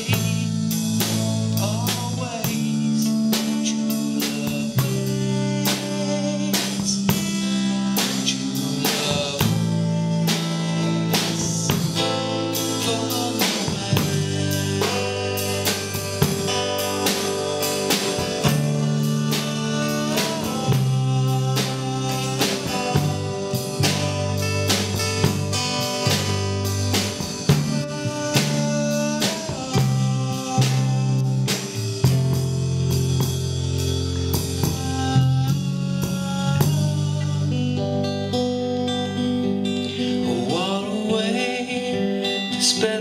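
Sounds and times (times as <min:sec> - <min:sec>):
drum kit beat: 0:00.0 - 0:37.6
acoustic guitar: 0:00.0 - 0:43.0
bass guitar: 0:00.0 - 0:43.0
electric guitar: 0:00.0 - 0:43.0.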